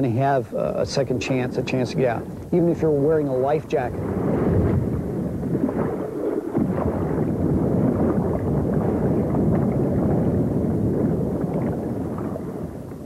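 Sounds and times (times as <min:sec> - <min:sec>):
turbulent water churning underwater: 0:00.0 - 0:13.0.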